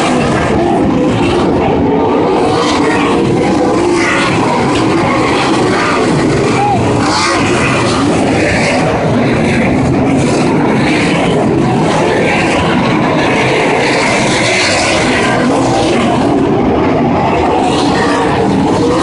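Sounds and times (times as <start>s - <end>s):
race car engines roaring: 0.0s - 19.0s.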